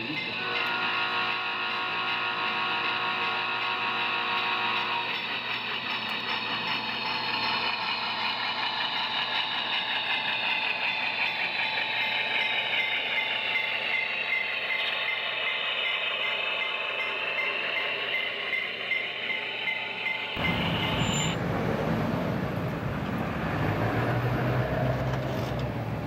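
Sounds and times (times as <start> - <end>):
train wheels rattling on rails: 0.0 - 26.0.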